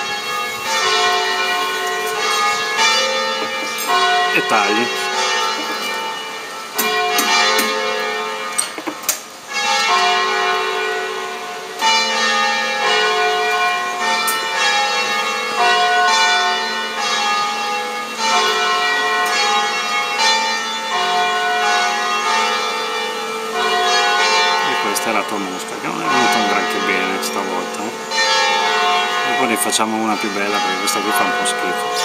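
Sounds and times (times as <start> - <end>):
church bells ringing: 0.0 - 32.0.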